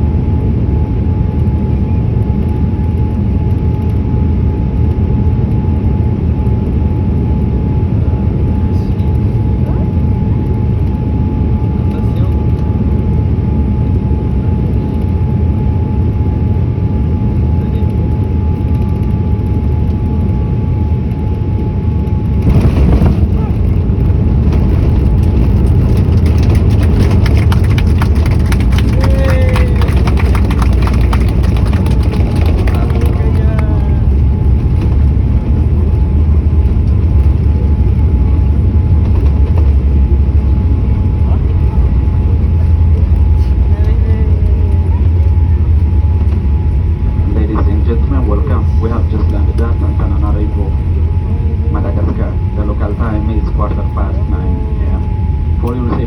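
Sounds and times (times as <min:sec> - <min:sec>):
aircraft engine rumble in cabin: 0:00.0 - 0:56.0.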